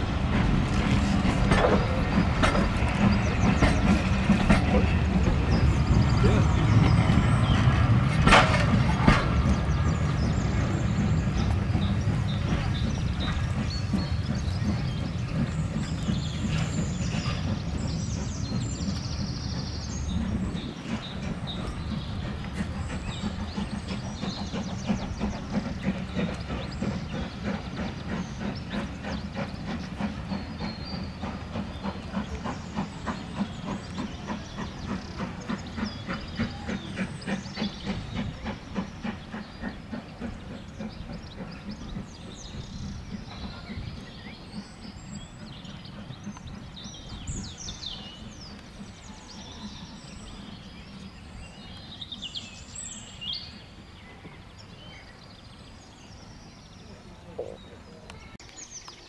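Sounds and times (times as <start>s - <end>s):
birds singing: 0.0s - 59.0s
steam train chugging: 0.0s - 59.0s.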